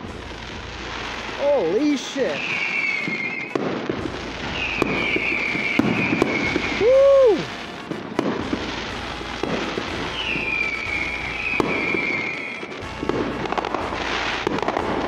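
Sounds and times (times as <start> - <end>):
descending firework whistle: 0.0 - 15.0
fireworks bangs and crackling pops: 0.0 - 15.0.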